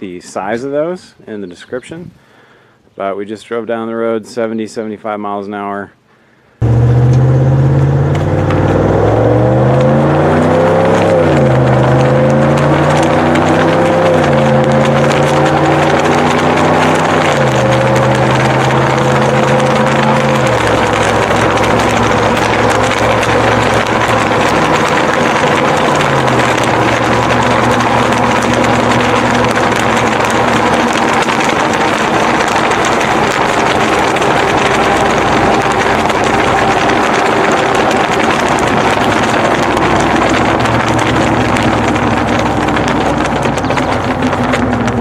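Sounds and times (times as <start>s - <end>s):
road noise: 5.6s - 45.0s
truck engine drone: 6.6s - 45.0s.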